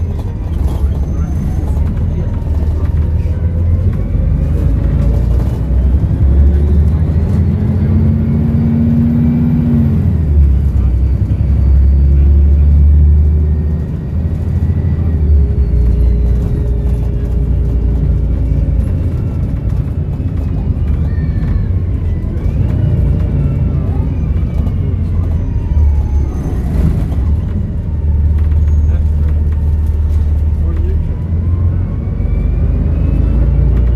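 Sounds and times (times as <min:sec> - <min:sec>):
diesel bus engine rumbling: 0:00.0 - 0:33.9.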